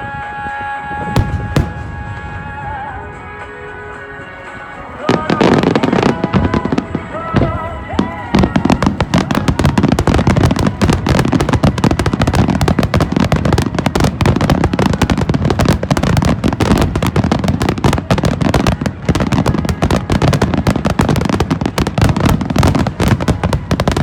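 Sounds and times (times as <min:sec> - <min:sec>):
fireworks crackling: 0:00.0 - 0:24.0
fireworks bursting: 0:00.3 - 0:24.0.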